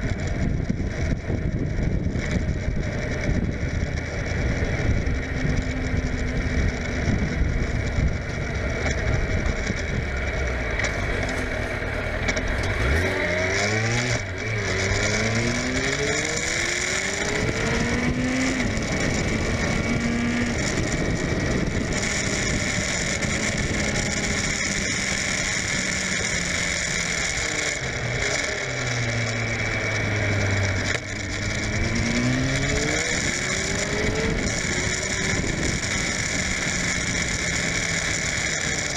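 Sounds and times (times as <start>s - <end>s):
wind rush on microphone: 0.0s - 10.4s, 13.7s - 26.6s, 29.2s - 38.9s
motorcycle engine revving: 0.0s - 38.9s.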